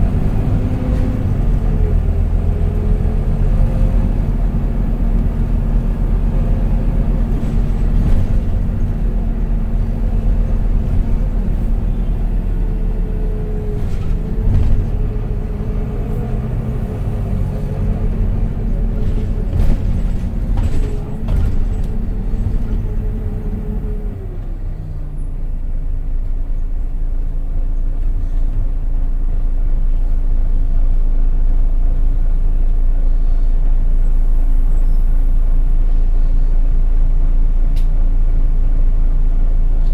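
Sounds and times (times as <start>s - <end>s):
bus diesel engine whine: 0.0s - 39.9s.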